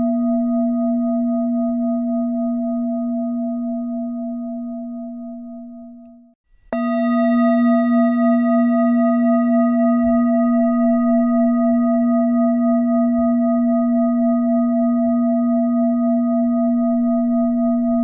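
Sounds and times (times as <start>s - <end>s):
meditation bell ringing: 0.0s - 18.0s.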